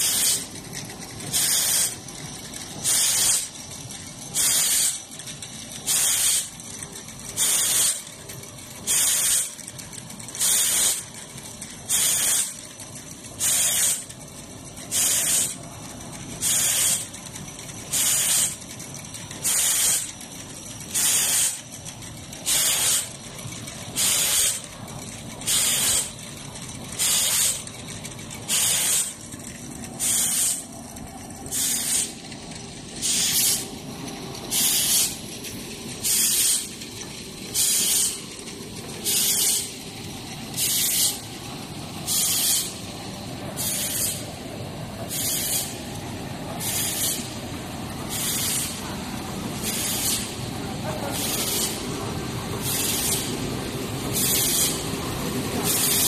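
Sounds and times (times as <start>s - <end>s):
machinery hum: 0.0s - 56.0s.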